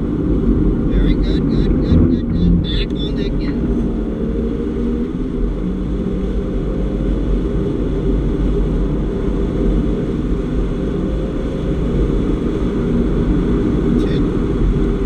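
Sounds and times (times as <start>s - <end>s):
car engine running hard: 0.0s - 15.0s
wind and road noise: 0.0s - 15.0s.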